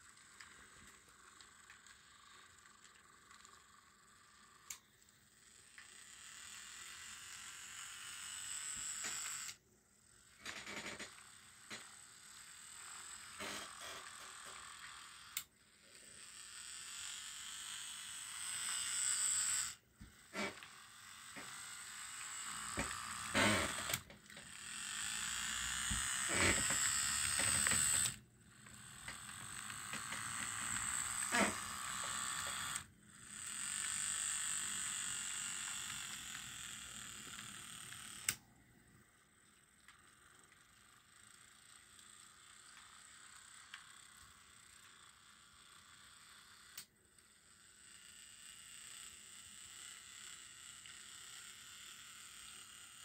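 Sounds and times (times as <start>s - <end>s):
model train motor whining: 0.0s - 53.0s.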